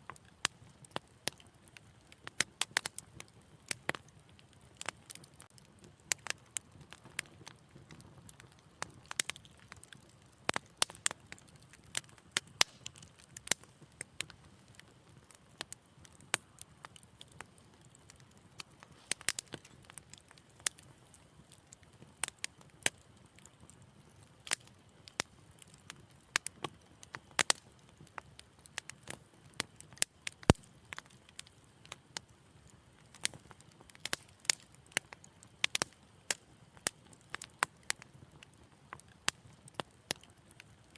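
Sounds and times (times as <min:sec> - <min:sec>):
fire pops and snaps: 0:00.0 - 0:40.9
wood fire crackling: 0:00.0 - 0:40.9.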